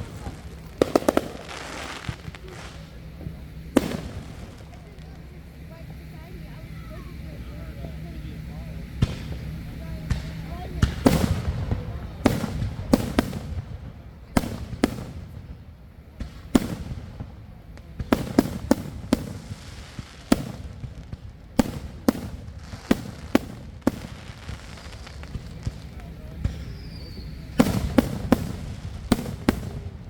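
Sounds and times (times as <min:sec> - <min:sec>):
fireworks booming: 0:00.0 - 0:30.0.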